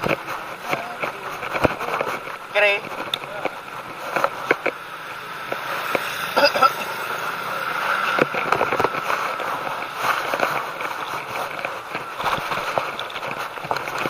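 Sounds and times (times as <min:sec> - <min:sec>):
bike rattles and clicks: 0:00.0 - 0:14.0
tyre and wind noise: 0:00.0 - 0:14.0.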